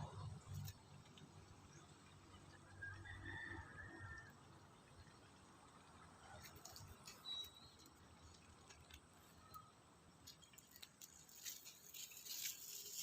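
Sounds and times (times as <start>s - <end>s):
soft outdoor hiss: 0.0s - 13.0s
small clicks and ticks: 0.1s - 2.9s, 3.8s - 13.0s.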